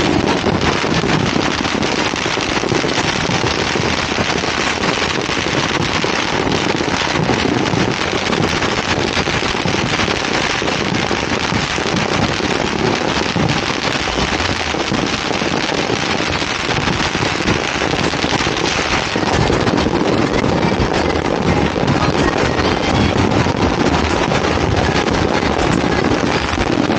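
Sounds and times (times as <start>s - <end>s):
firecrackers crackling: 0.0s - 26.9s.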